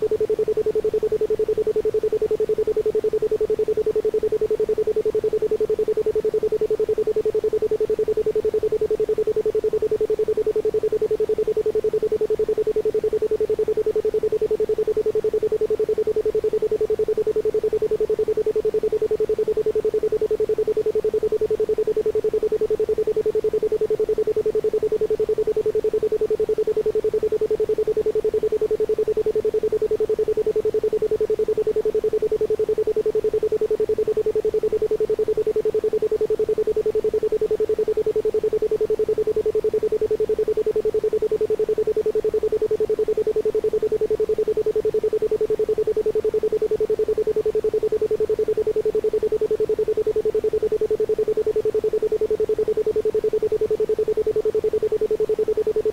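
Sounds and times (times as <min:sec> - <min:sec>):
pulsed pure tone: 0:00.0 - 0:55.9.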